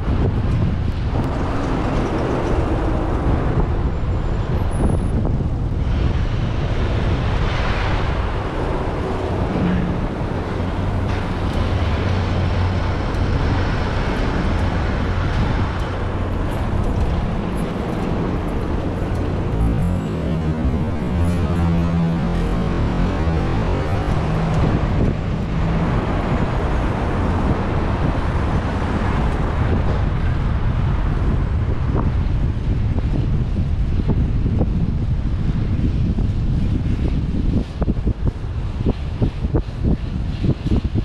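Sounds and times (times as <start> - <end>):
city street traffic: 0.0 - 41.0
wind on microphone: 0.0 - 41.0.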